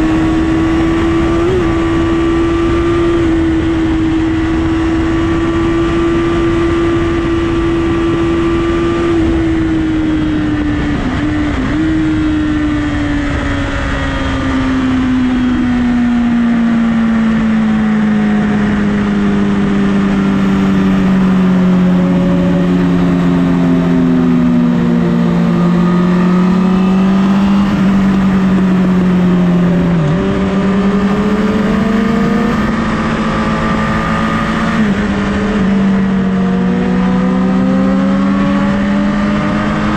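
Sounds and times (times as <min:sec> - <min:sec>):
motorcycle engine at high revs: 0:00.0 - 0:39.9
other motorcycle engines: 0:00.0 - 0:39.9.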